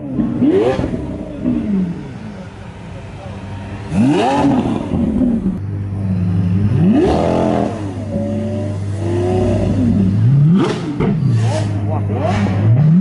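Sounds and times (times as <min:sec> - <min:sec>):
car engine idling with revs: 0:00.0 - 0:13.0.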